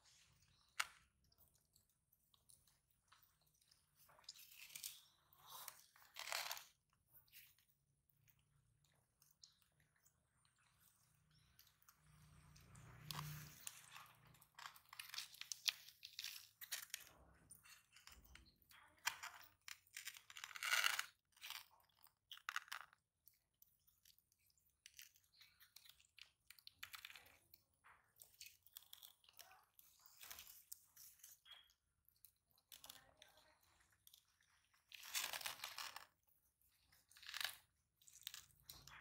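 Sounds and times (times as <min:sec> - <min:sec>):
tortoises crunching food: 0:00.0 - 0:39.0.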